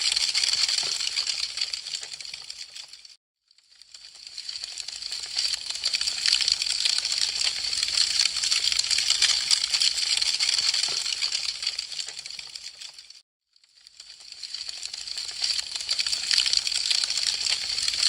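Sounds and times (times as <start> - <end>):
wood fire crackling and popping: 0.1 - 3.2, 4.3 - 13.2, 13.9 - 18.0.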